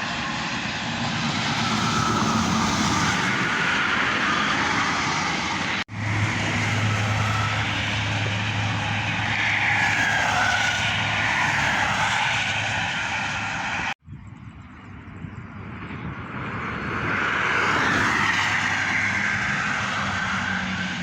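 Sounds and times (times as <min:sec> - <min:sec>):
buses passing at speed: 0:00.0 - 0:21.0.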